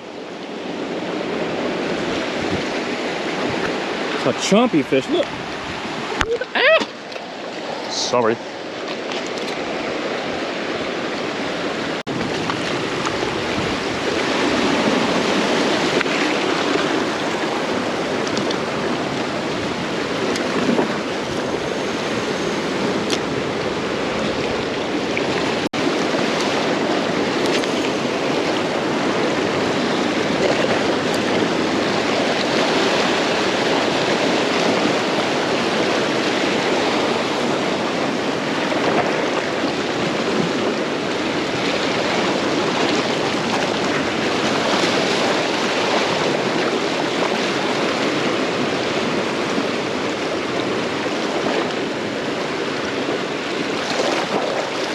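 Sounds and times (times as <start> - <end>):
ocean surf washing on shore: 0.0 - 54.9.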